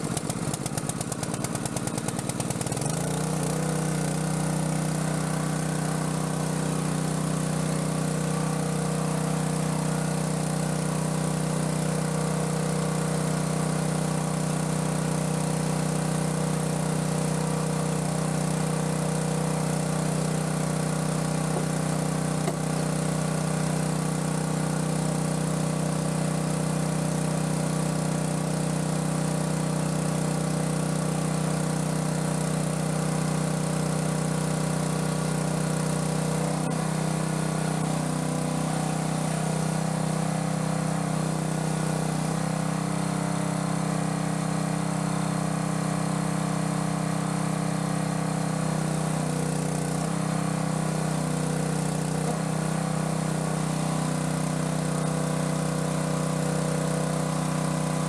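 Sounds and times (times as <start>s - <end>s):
small water pump engine running: 0.0s - 58.0s.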